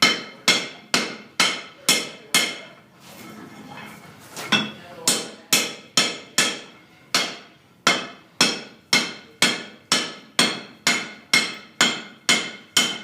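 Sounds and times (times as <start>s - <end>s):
hammer striking iron on anvil: 0.0s - 2.7s, 4.6s - 13.0s.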